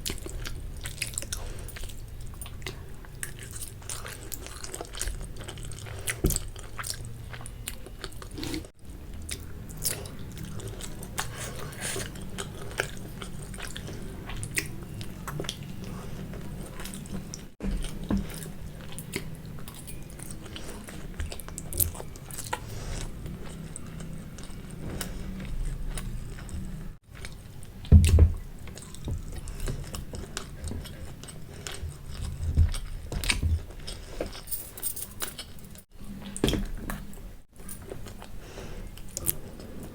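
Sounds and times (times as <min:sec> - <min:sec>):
person chewing noodles: 0:00.0 - 0:34.5, 0:35.1 - 0:39.9.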